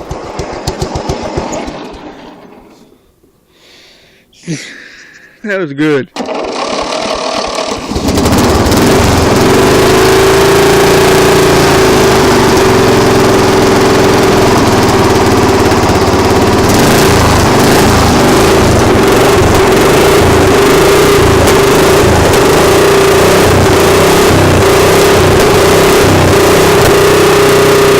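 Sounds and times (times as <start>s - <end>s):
vehicle engine running: 0.0s - 3.0s, 6.2s - 27.9s.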